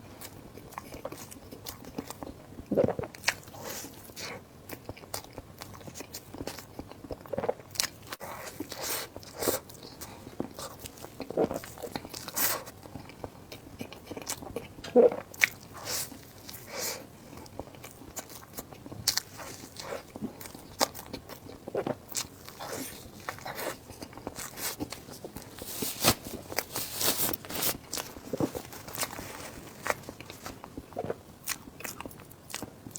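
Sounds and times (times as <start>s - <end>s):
crunchy chewing close up: 0.2s - 32.9s.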